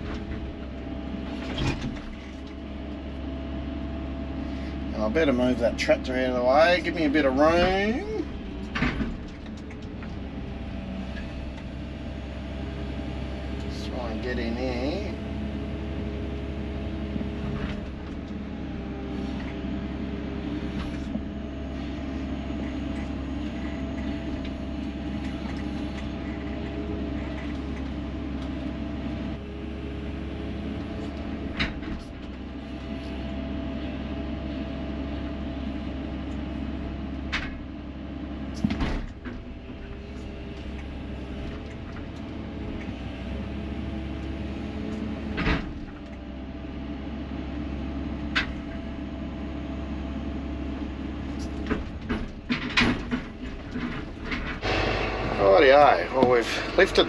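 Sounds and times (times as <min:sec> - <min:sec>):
excavator diesel engine under load: 0:00.0 - 0:57.0.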